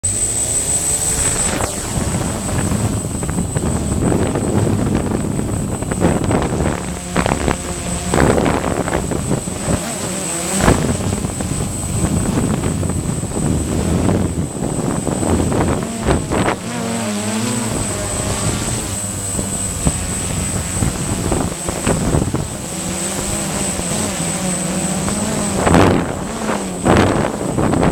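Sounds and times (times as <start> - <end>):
quadcopter propellers buzzing: 0.0 - 27.9
wind buffeting microphone: 0.1 - 27.9.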